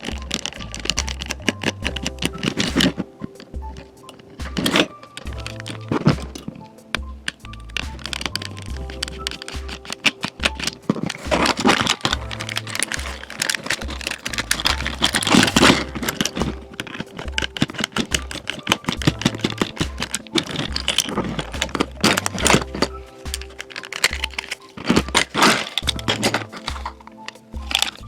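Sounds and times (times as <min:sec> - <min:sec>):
background music with bass line: 0:00.0 - 0:28.0
sharp clicks: 0:00.0 - 0:28.0.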